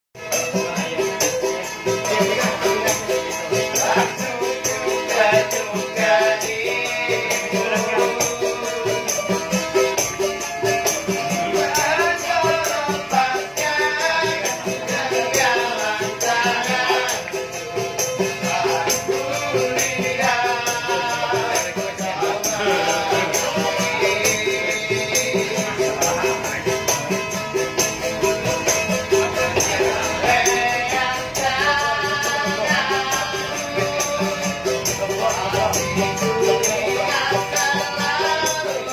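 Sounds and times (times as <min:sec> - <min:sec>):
person singing: 0:00.2 - 0:38.9
rattling hand percussion: 0:00.2 - 0:38.9.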